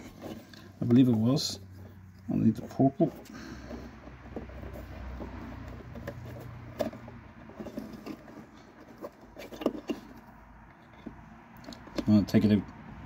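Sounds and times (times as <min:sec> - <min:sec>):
wires rustling and clicking: 0:00.0 - 0:12.2.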